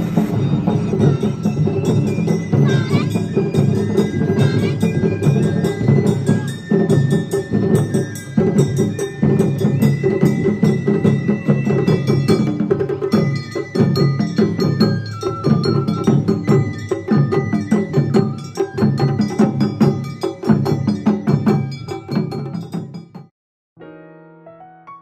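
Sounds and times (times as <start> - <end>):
bamboo flutes: 0.0 - 21.6.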